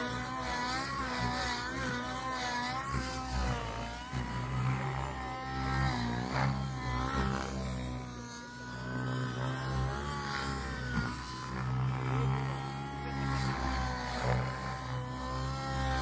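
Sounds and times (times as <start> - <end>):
model helicopter engine whining: 0.0 - 16.0.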